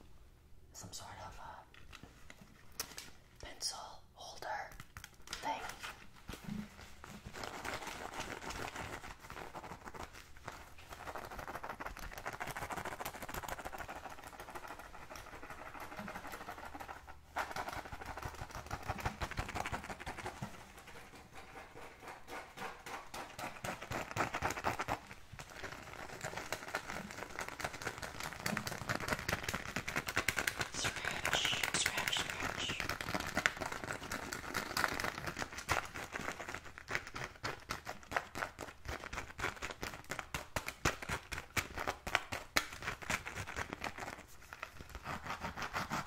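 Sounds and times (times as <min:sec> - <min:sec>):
fingers scratching a pouch: 0:04.9 - 0:46.0.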